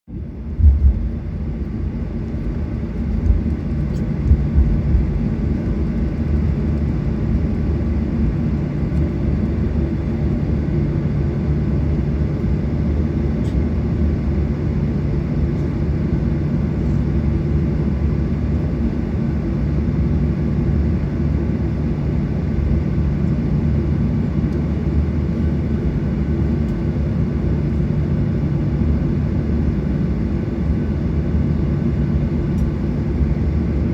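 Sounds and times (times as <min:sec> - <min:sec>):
airplane cabin engine hum: 0:00.1 - 0:33.9.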